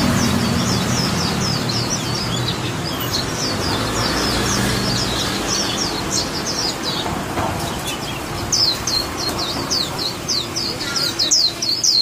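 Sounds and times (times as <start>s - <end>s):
bird twittering: 0.0s - 12.0s.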